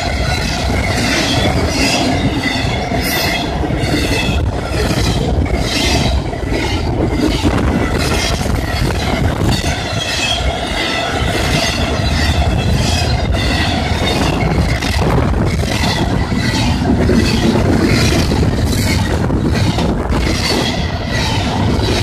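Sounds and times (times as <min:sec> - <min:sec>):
freight train rumbling past: 0:00.0 - 0:22.0
wheels clattering over rail joints: 0:00.0 - 0:22.0.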